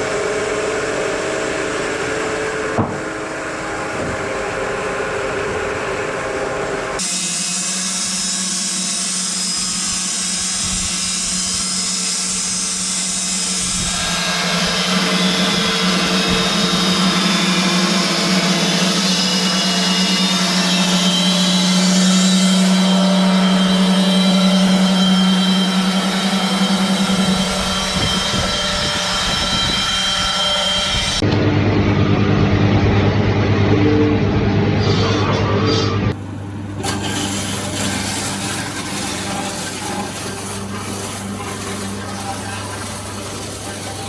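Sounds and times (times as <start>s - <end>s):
sawmill machinery hum: 0.0s - 44.0s.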